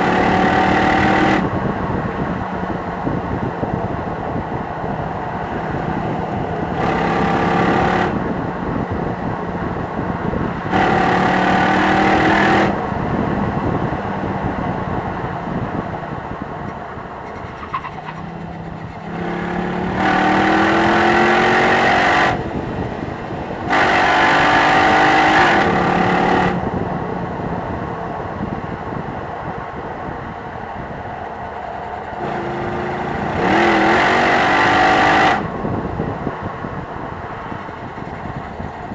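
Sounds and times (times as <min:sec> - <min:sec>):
car engine revving: 0:00.0 - 0:27.0, 0:31.5 - 0:38.9.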